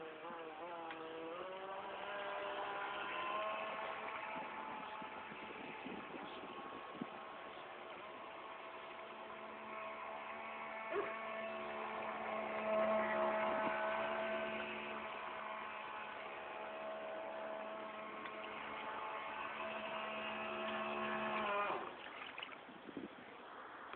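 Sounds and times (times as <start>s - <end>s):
small motor whining: 0.0s - 23.9s.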